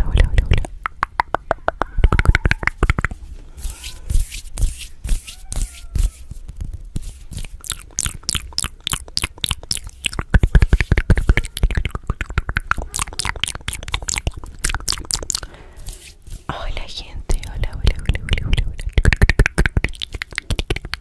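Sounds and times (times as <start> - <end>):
wet chewing and smacking: 0.0 - 16.5, 17.3 - 21.0.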